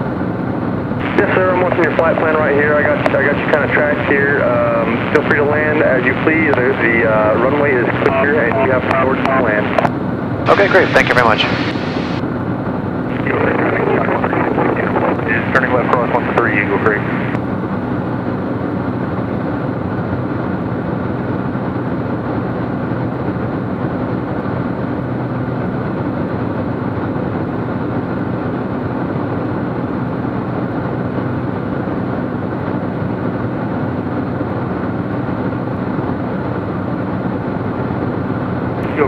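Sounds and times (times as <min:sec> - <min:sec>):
aircraft engine and propeller droning: 0:00.0 - 0:39.0.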